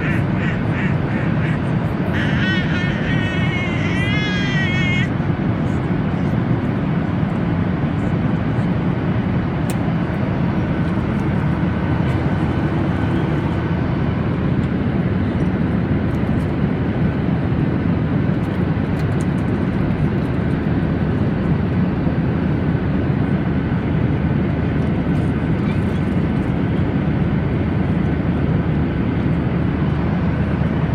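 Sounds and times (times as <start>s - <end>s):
airplane cabin drone: 0.0s - 30.9s.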